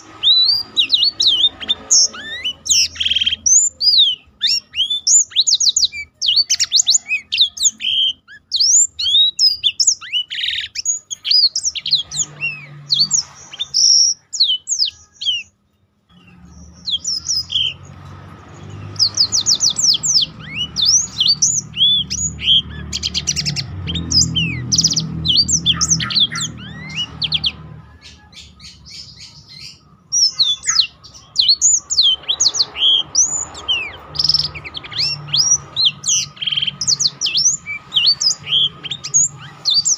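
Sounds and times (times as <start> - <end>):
birds chirping song: 0.0 - 39.9.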